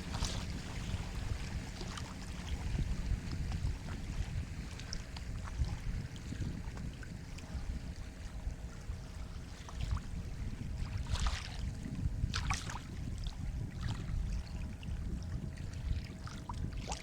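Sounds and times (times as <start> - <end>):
sea water low rumble: 0.0 - 17.0
water splashes: 0.0 - 17.0.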